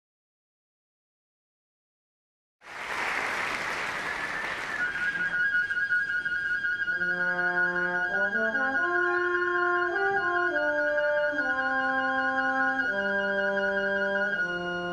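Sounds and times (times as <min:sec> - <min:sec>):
orchestra playing slow tune: 0:02.7 - 0:14.9.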